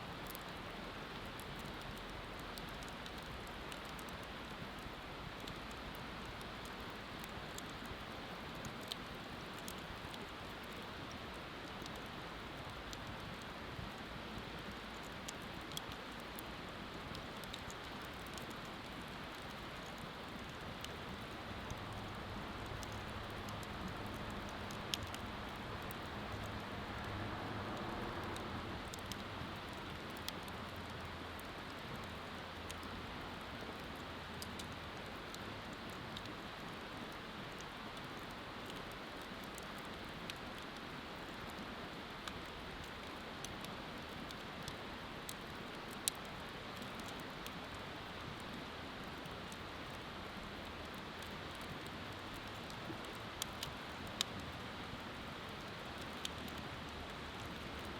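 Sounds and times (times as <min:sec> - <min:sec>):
bonfire crackling and popping: 0:00.1 - 0:57.9.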